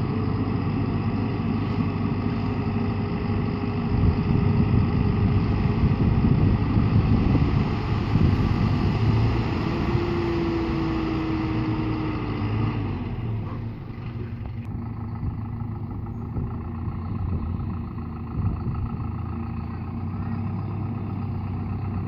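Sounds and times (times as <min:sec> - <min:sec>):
dump truck engine running: 0:00.0 - 0:22.0.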